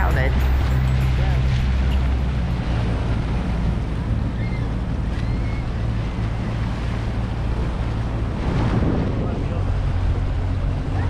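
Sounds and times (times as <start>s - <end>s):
outboard motor hum: 0.0s - 11.0s
water rushing along hull: 0.0s - 11.0s
wind noise on microphone: 0.0s - 11.0s.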